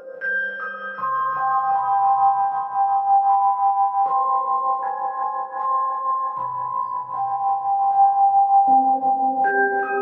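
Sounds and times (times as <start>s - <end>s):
chime-like notes: 0.0s - 10.0s.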